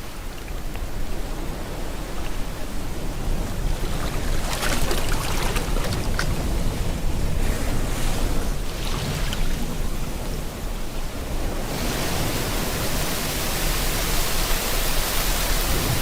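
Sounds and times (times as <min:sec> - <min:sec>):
ocean waves rumbling: 0:00.0 - 0:16.0
wave foam hissing and crackling: 0:00.0 - 0:16.0.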